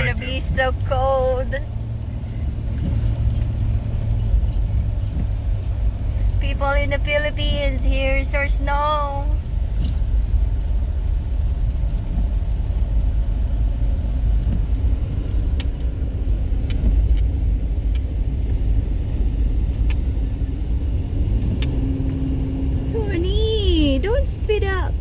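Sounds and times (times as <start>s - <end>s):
car engine and tyres rumbling: 0.0s - 25.0s
light ticks and rattles: 0.0s - 25.0s.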